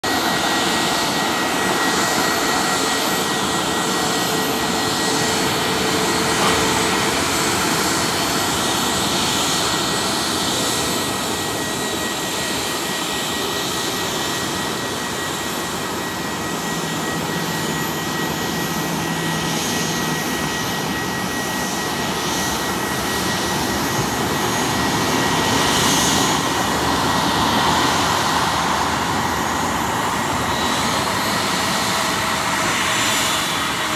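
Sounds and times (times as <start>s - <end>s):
jet engines at taxi power: 0.0s - 33.9s.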